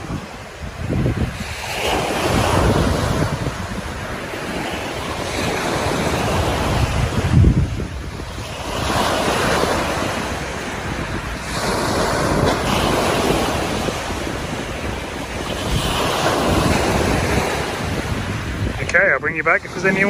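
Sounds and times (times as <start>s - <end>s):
waves breaking on beach: 0.0s - 20.0s
wind buffeting microphone: 0.0s - 20.0s.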